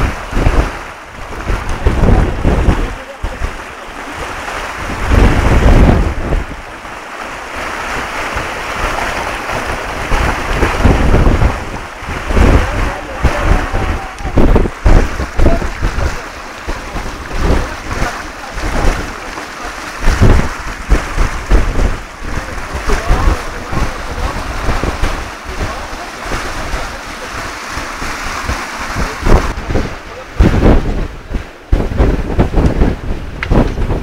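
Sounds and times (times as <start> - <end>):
water splashing along hull: 0.0 - 34.0
wind buffeting microphone: 0.0 - 34.0.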